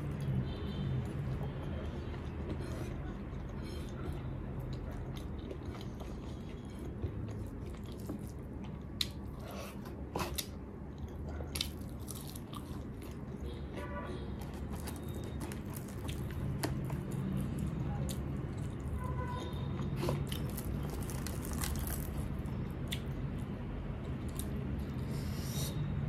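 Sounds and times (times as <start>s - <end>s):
chewing and wet mouth sounds: 0.0s - 25.8s.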